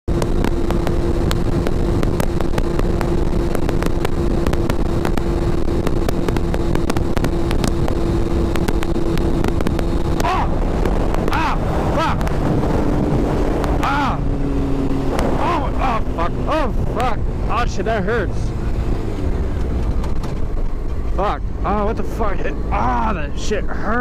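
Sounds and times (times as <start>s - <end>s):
motorcycle engine running: 0.0s - 24.0s
wind over microphone: 0.1s - 24.0s.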